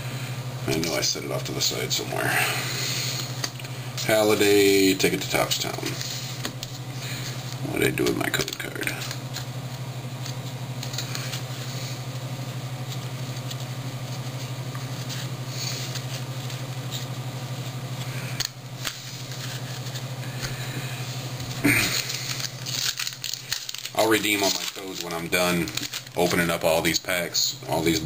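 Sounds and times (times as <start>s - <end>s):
low electrical hum: 0.0s - 28.0s
trading cards and wrappers rustling: 2.9s - 28.0s.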